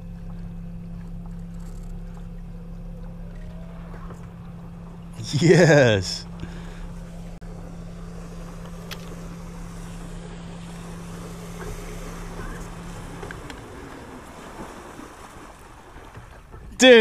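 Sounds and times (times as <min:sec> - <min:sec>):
low motor hum: 0:00.0 - 0:17.0
water lapping: 0:00.0 - 0:17.0
wind: 0:00.0 - 0:17.0.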